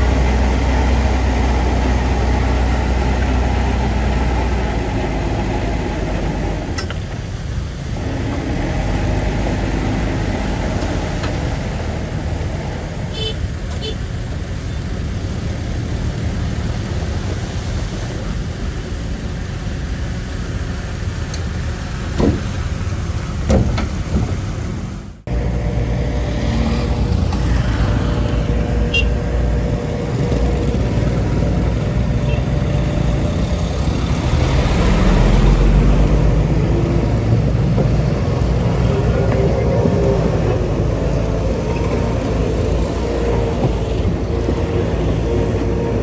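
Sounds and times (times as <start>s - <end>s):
heavy diesel engines rumbling: 0.0s - 46.0s.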